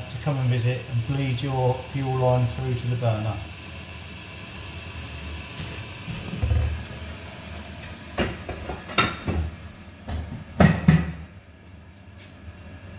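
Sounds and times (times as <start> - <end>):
oil burner humming: 0.0 - 12.9.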